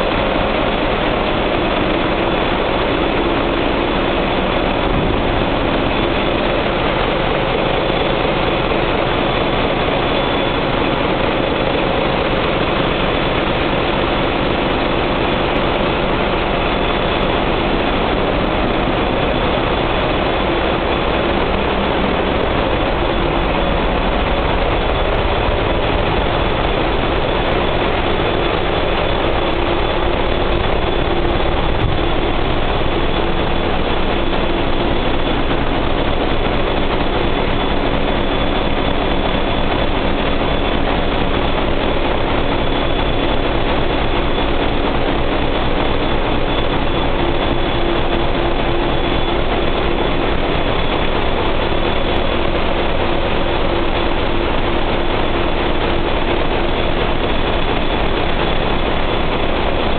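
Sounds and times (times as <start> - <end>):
diesel generators running: 0.0 - 59.9.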